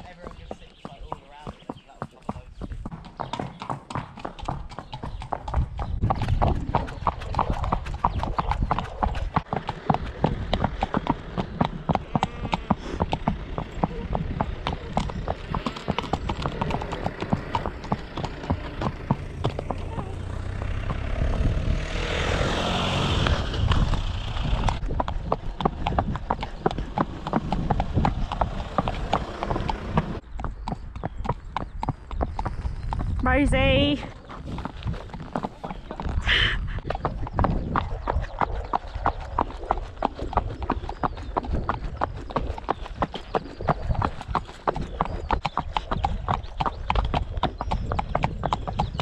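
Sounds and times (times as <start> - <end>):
horse hooves clip-clopping on pavement: 0.0 - 21.8, 23.2 - 49.0.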